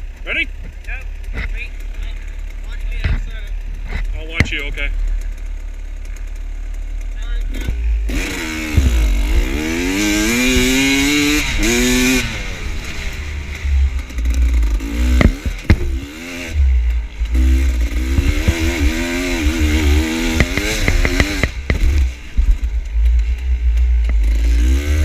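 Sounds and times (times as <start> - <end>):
dirt bike engine revving: 0.0 - 25.0
sharp knocks and clatter: 0.6 - 5.4, 7.6 - 12.2, 13.5 - 24.8.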